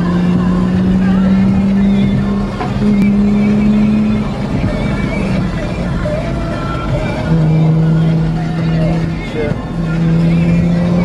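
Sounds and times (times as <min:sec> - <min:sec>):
car engine hum from cabin: 0:00.0 - 0:11.0.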